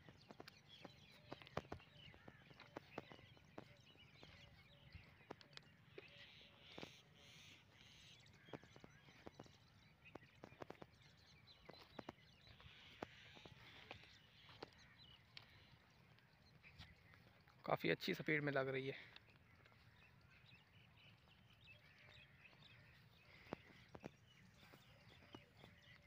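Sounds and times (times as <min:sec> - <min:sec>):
faint bird chirping: 0:00.0 - 0:26.0
footsteps on gravel: 0:00.0 - 0:26.0.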